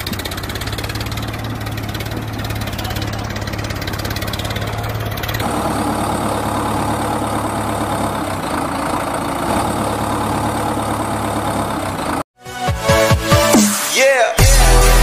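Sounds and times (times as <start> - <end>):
engine idling with rapid pulse: 0.0 - 12.2
engine running steadily: 0.0 - 12.2.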